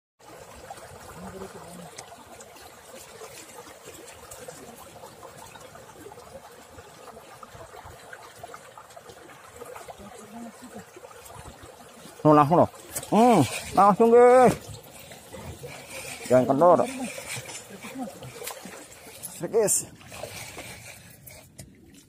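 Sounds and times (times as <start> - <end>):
faint water trickling: 0.2 - 22.0.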